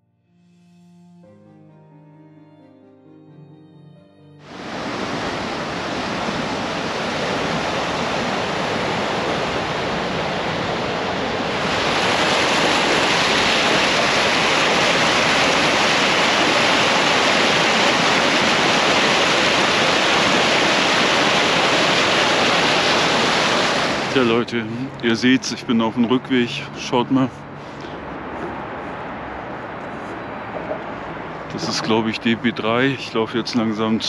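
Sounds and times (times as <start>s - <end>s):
water rushing: 4.4s - 29.8s, 30.4s - 34.0s.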